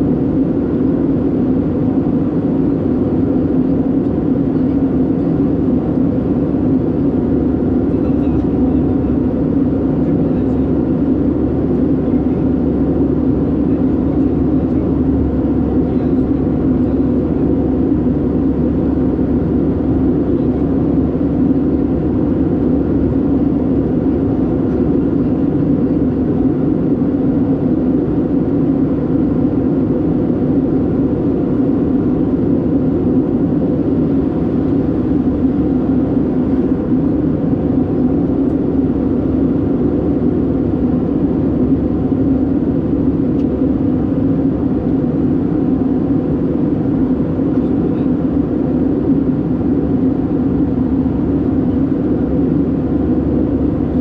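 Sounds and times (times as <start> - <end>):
airflow over fuselage: 0.0 - 54.0
airplane cabin engine drone: 0.0 - 54.0.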